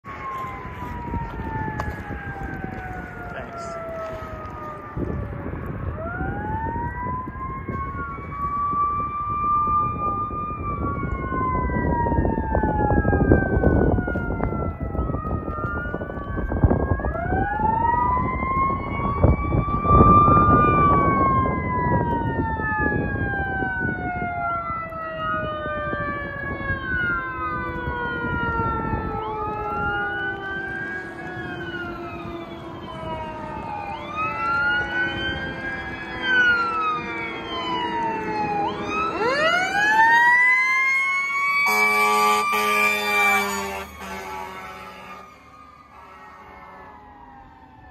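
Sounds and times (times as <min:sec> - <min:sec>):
fire engine siren wailing: 0:00.0 - 0:47.9.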